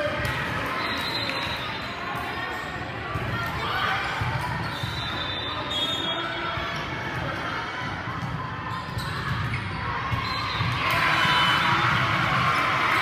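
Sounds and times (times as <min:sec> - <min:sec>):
crowd murmur echoing: 0:00.0 - 0:13.0.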